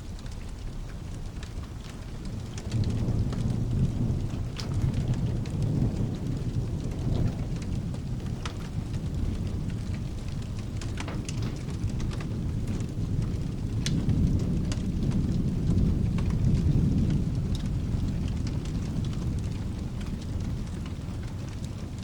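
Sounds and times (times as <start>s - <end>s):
rolling thunder: 0.0s - 22.0s
steady rain hiss: 0.0s - 22.0s.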